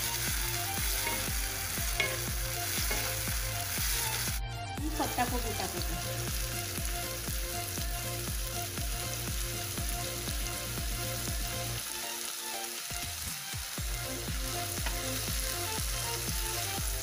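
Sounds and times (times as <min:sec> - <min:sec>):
soft background music: 0:00.0 - 0:17.0
vegetables sizzling in oil: 0:00.0 - 0:17.0.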